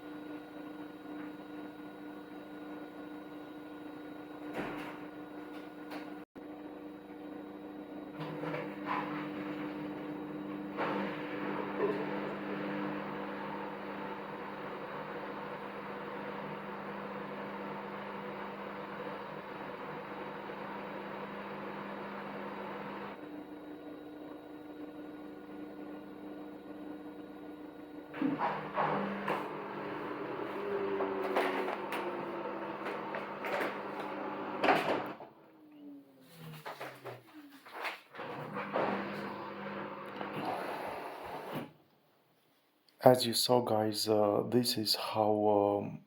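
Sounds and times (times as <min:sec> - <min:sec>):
washing machine motor hum: 0:00.0 - 0:41.8.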